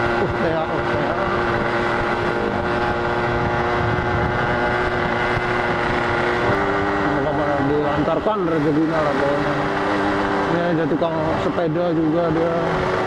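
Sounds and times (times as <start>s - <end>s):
two-stroke motorcycle engine running: 0.0s - 13.0s.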